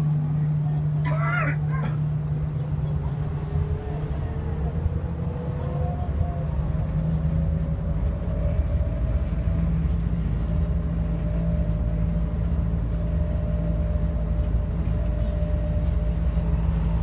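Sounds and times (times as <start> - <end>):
constant hum: 0.0 - 17.0
people-mover cabin rumble: 0.0 - 17.0.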